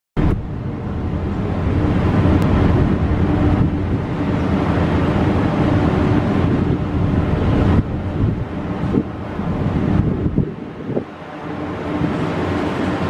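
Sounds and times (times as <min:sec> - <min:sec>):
deep continuous rumble: 0:00.2 - 0:13.0
wind buffeting microphone: 0:00.2 - 0:13.0.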